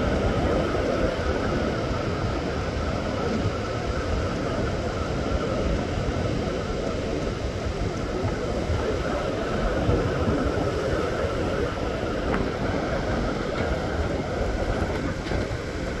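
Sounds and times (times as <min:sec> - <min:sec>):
low uneven rumble: 0:00.0 - 0:16.0
surf breaking on beach: 0:00.0 - 0:16.0.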